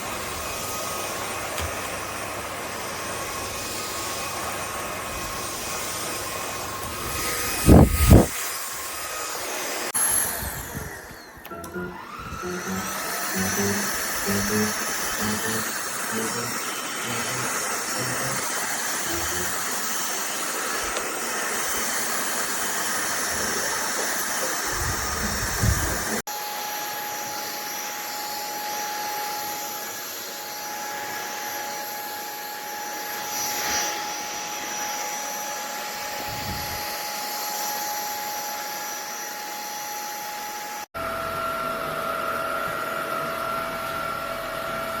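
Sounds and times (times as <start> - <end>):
stick vacuum running: 0.0 - 37.0.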